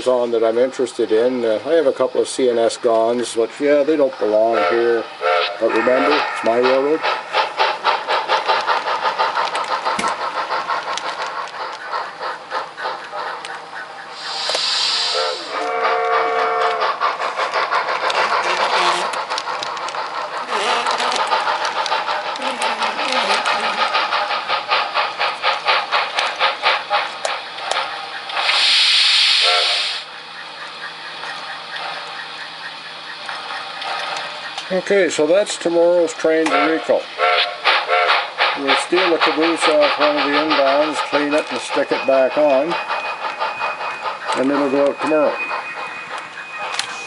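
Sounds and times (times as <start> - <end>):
model steam locomotive chuffing: 0.0 - 47.0
steam hissing: 0.0 - 47.0.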